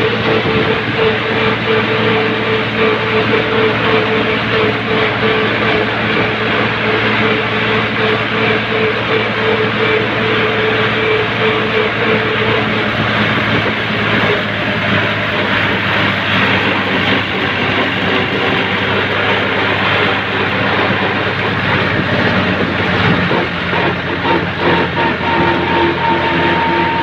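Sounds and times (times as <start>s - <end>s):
tractor diesel engine droning: 0.0s - 27.0s.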